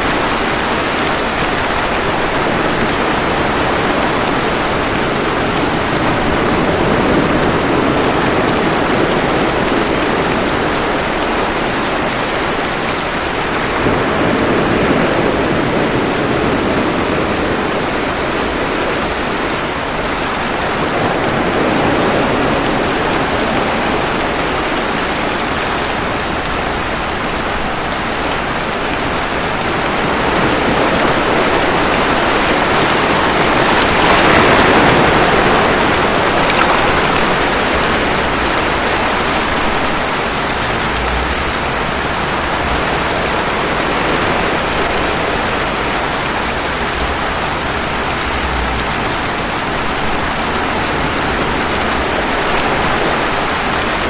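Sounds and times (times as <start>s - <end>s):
ocean waves: 0.0s - 54.0s
steady rain: 0.0s - 54.0s.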